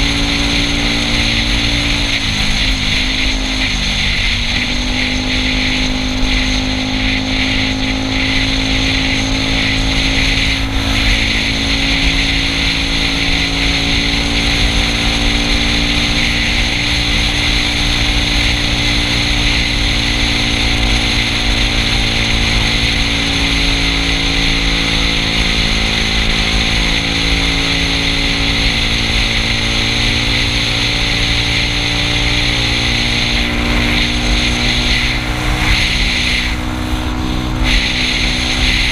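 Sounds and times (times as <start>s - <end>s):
scooter engine cruising: 0.0s - 38.9s
wind and road noise: 0.0s - 38.9s.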